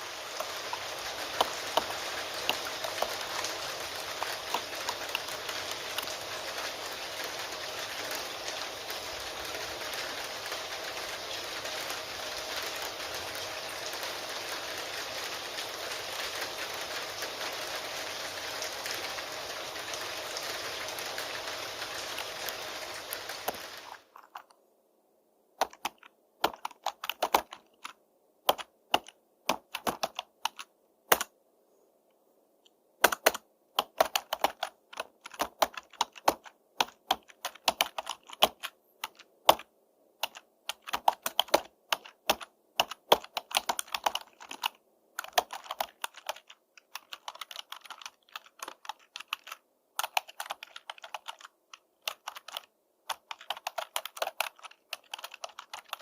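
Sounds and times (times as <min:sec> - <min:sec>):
computer keyboard typing: 0:00.3 - 0:24.6, 0:25.6 - 0:31.3, 0:33.0 - 0:56.0.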